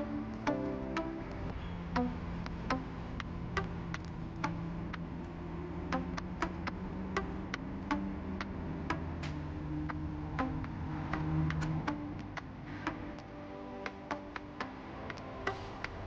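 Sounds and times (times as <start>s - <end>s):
low held music tones: 0.0s - 16.0s
sharp clicking ticks: 0.0s - 16.0s.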